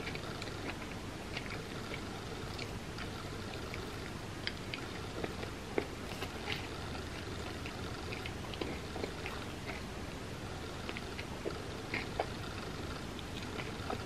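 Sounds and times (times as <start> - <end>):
wet chewing smacks: 0.0 - 10.0, 10.7 - 14.0
steady background hiss: 0.0 - 14.0.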